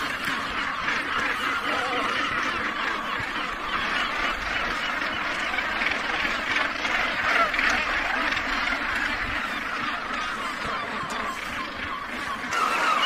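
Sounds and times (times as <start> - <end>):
gannet colony calling: 0.0 - 13.0.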